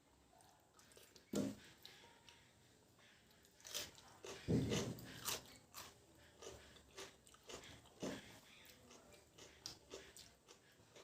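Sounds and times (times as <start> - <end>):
person chewing food: 0.3 - 11.0.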